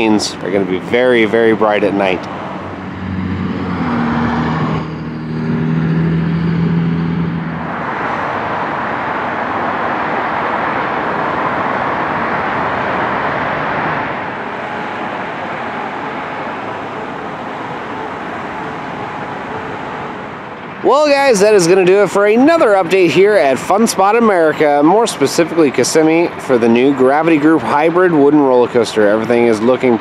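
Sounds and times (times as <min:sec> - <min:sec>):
engine hum: 0:00.0 - 0:30.0
rush of passing vehicles: 0:00.0 - 0:30.0.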